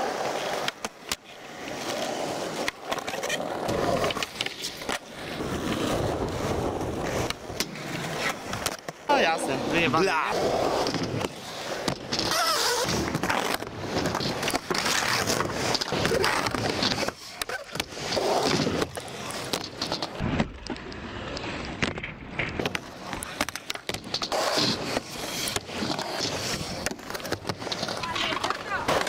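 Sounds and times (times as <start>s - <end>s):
skateboard clacking on ground: 0.0s - 9.2s, 10.7s - 29.0s
skateboard wheels rolling on concrete: 0.0s - 29.0s.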